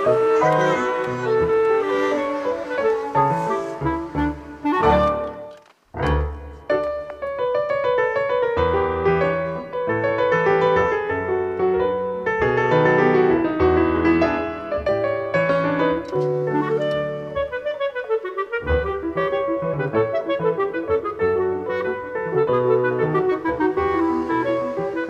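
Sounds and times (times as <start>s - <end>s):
piano background music: 0.0s - 25.0s.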